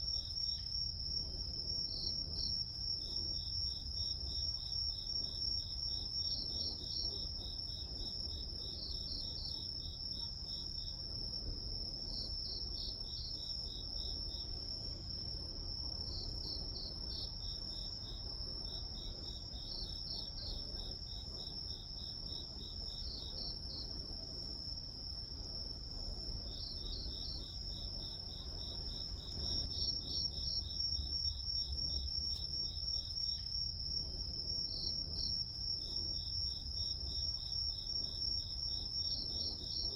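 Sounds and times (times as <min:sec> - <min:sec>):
crickets chirping in pulses: 0:00.0 - 0:39.9.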